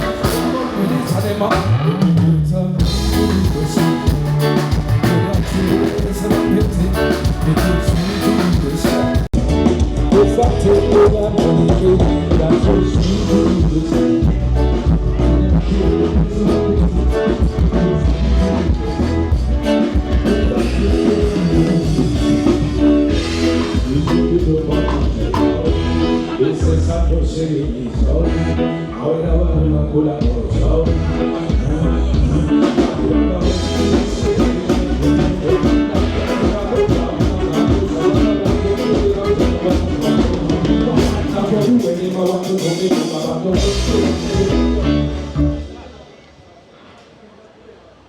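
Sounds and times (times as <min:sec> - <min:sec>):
instrumental band music: 0:00.0 - 0:26.8, 0:30.2 - 0:46.1.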